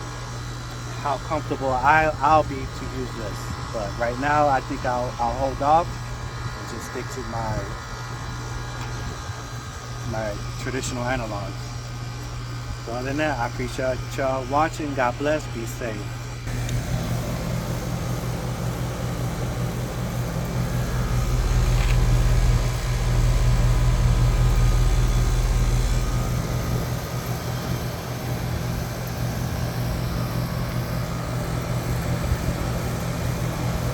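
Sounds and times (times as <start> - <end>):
air conditioning unit humming: 0.0 - 33.9.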